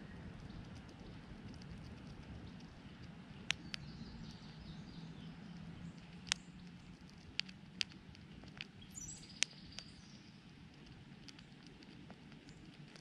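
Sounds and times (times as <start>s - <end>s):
chipmunk chewing crunchy clicks: 0.1s - 13.0s.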